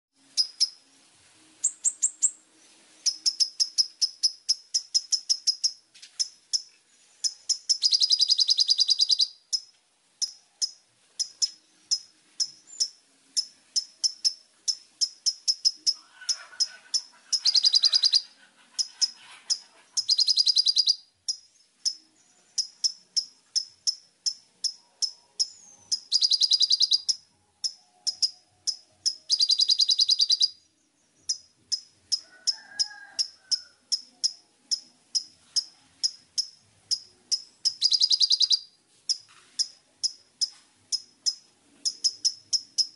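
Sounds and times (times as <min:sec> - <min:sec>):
bird chirping and trilling: 0:00.4 - 0:00.8, 0:01.6 - 0:02.4, 0:03.0 - 0:42.9.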